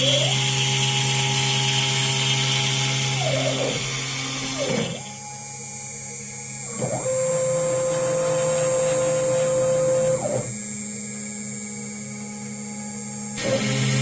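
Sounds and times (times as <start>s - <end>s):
stepper motors whining: 0.0s - 11.0s, 13.4s - 14.0s.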